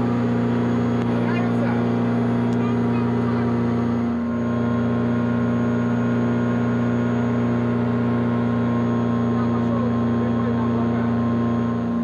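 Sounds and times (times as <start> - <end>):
glider engine and propeller drone: 0.0 - 12.0.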